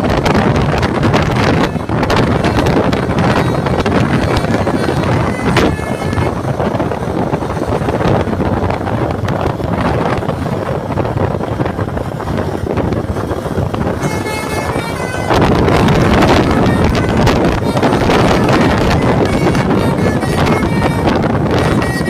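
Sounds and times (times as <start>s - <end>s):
bus multi-tone air horn: 0.0s - 10.9s, 13.6s - 22.0s
bus passing: 0.0s - 22.0s
wind buffeting microphone: 0.0s - 22.0s.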